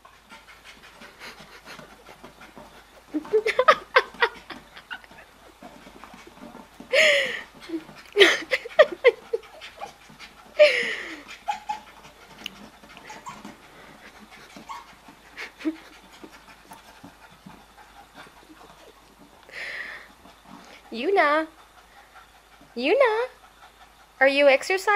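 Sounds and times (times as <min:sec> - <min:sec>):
dog panting: 0:00.0 - 0:24.9
dog vocal noises: 0:00.0 - 0:24.9.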